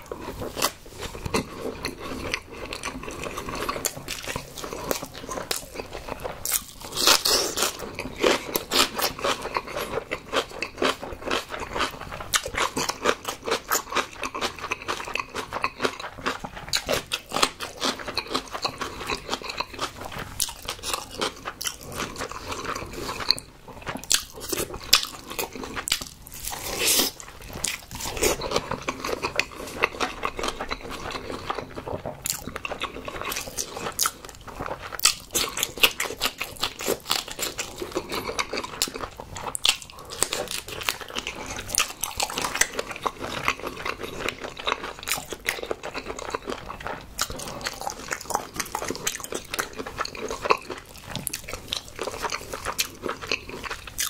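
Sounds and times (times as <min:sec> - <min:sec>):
person biting and chewing: 0:00.0 - 0:54.0.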